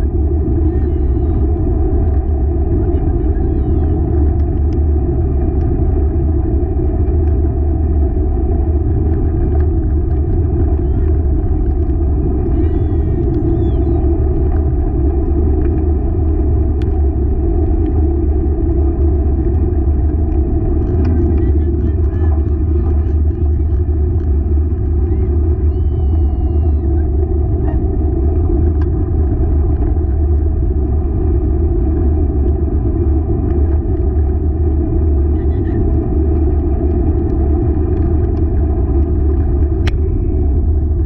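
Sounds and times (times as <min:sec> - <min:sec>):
wheels rumbling on ground: 0:00.0 - 0:41.0.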